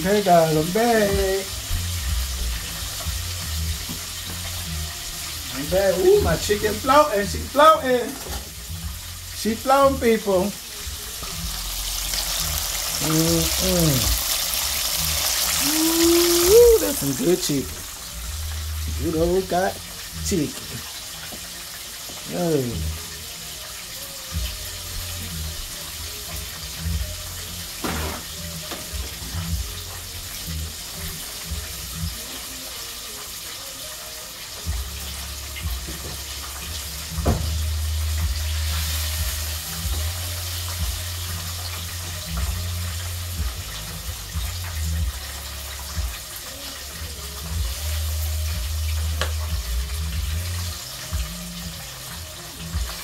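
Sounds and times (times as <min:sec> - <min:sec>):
wings sizzling in hot grease: 0:00.0 - 0:53.0.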